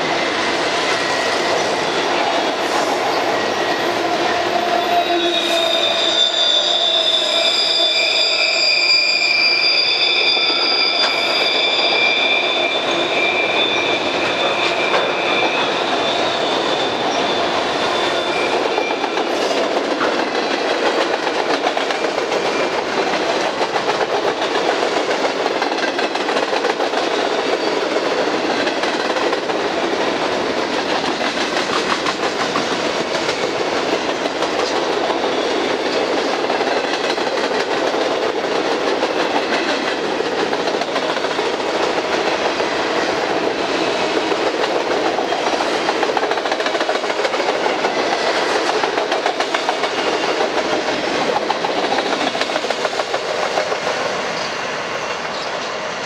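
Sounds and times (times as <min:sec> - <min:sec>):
freight train wheels clicking on rails: 0:09.8 - 0:56.0.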